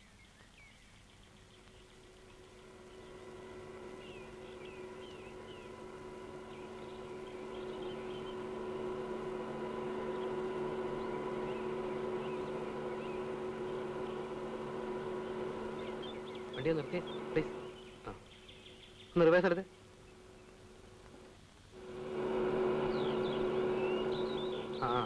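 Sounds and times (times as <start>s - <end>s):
bird chirps: 0.0s - 20.8s, 22.6s - 25.0s
car engine humming: 1.6s - 25.0s.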